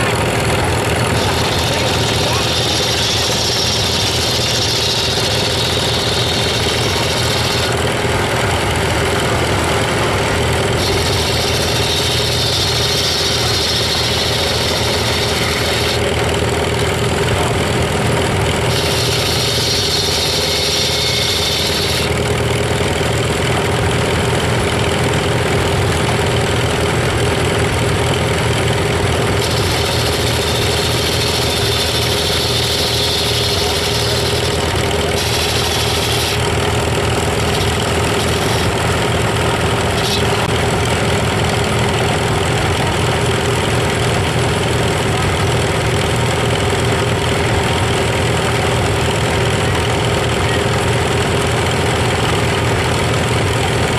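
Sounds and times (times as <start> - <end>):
engine chugging: 0.0 - 53.9
saw blade whining through log: 0.0 - 53.9.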